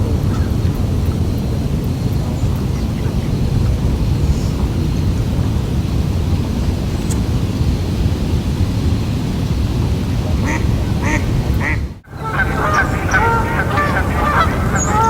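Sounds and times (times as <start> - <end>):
flock of birds calling: 0.0 - 7.8, 9.7 - 15.0
steady low rumble: 0.0 - 15.0.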